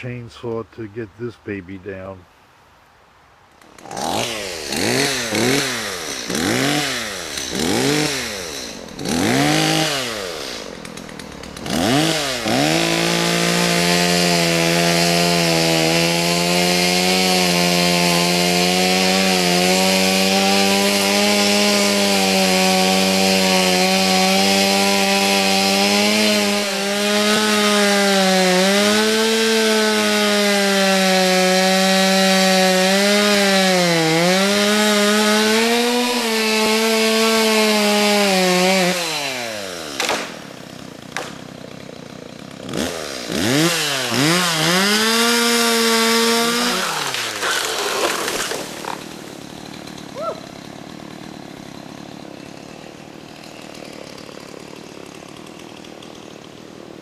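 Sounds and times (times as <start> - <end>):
chainsaw cutting wood: 3.5 - 57.0.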